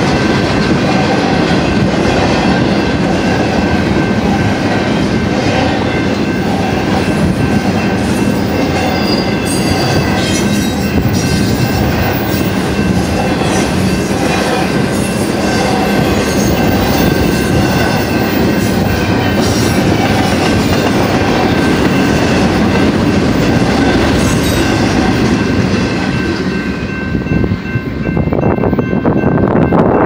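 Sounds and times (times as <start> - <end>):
crossing bell ringing: 0.0 - 30.0
freight train wheels on rails: 0.0 - 30.0.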